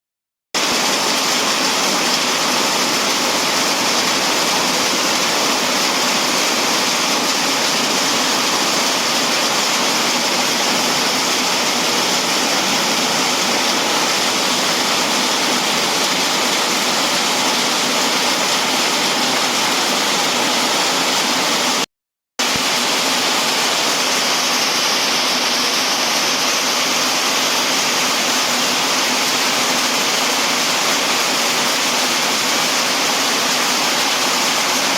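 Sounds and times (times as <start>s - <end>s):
heavy rain pouring: 0.6s - 34.9s.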